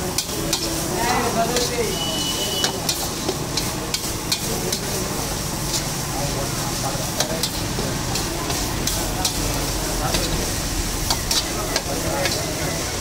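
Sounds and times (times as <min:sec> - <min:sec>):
rice sizzling in wok: 0:00.0 - 0:13.0
spatula scraping metal wok: 0:00.0 - 0:13.0.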